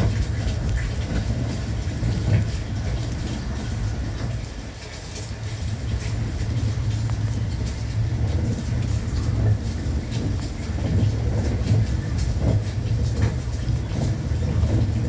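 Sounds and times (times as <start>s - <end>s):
train running at speed: 0.0s - 15.0s.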